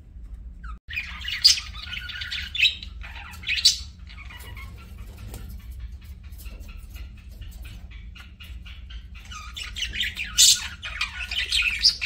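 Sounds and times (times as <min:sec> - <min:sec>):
budgerigars chattering: 0:00.9 - 0:12.0.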